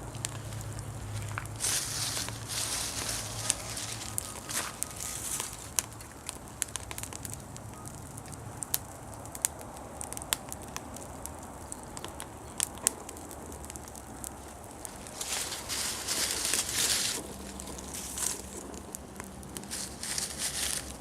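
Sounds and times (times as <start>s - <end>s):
leaves crackling and popping in fire: 0.0s - 21.0s
low hiss of burning: 0.0s - 21.0s.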